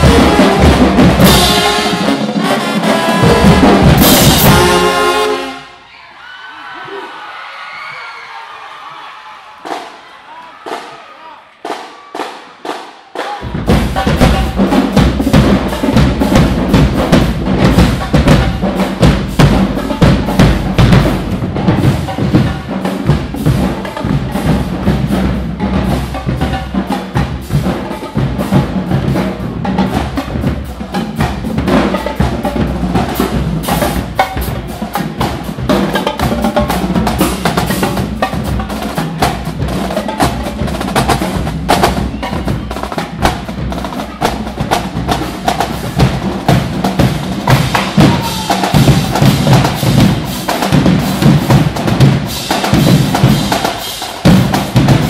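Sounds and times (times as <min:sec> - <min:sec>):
marching drumline cadence: 0:00.0 - 0:05.9, 0:06.7 - 0:55.0.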